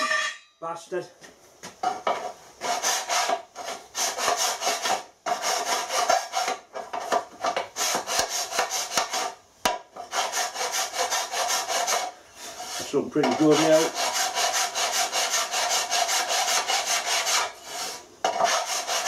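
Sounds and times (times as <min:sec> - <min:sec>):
hand file rasping on metal: 0:02.6 - 0:09.4, 0:10.0 - 0:19.0.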